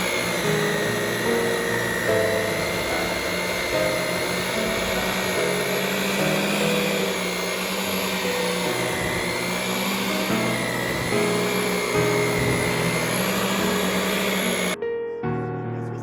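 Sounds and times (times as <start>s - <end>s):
electric hand mixer running: 0.0s - 14.8s.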